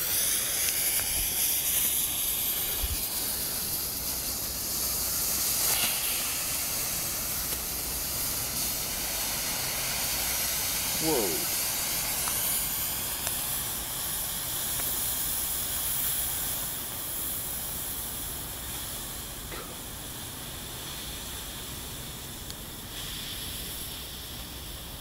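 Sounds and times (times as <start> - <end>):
smoke bomb hissing: 0.0 - 25.0.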